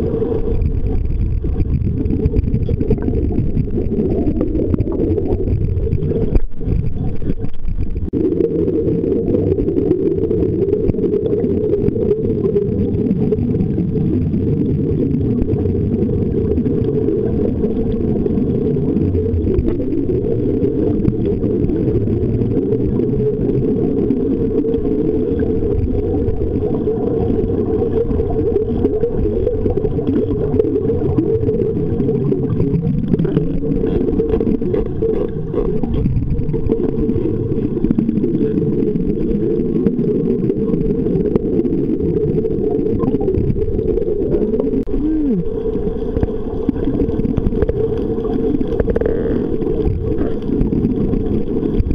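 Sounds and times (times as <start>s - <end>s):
underwater rumble of water: 0.0s - 51.9s.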